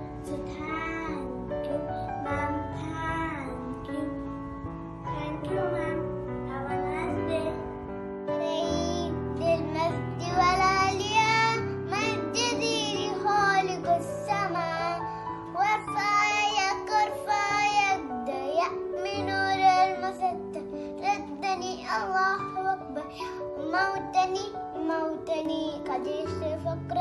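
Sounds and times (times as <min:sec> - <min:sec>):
child singing: 0:00.0 - 0:04.4, 0:05.1 - 0:07.8, 0:08.4 - 0:27.0
instrumental backing music: 0:00.0 - 0:27.0.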